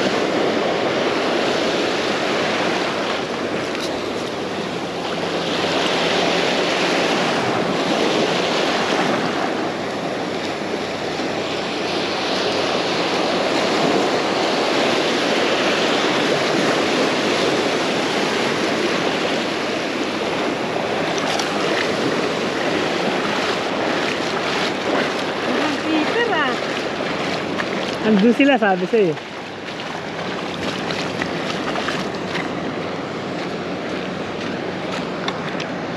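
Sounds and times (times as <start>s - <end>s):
ocean surf washing onto beach: 0.0s - 35.9s
wind buffeting microphone: 0.0s - 35.9s.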